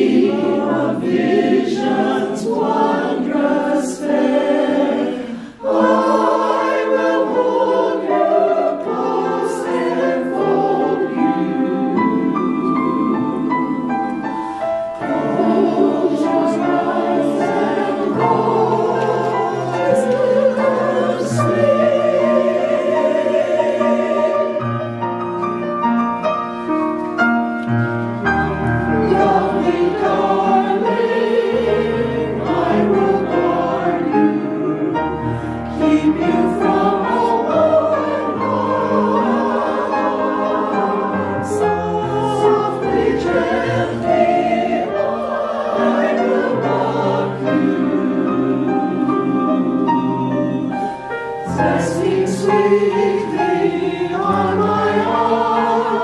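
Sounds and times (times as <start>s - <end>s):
choir singing slow anthem: 0.0s - 24.9s, 28.2s - 56.0s.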